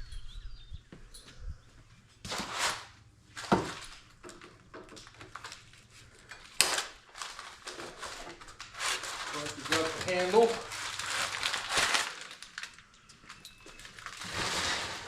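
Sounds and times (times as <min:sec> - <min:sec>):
scraping and rustling: 0:02.0 - 0:12.7, 0:13.3 - 0:15.0.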